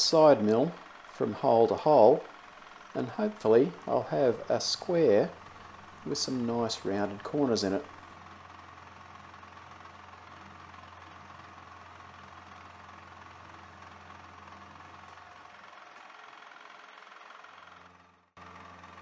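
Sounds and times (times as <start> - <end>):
milling machine motor hum: 0.0 - 19.0.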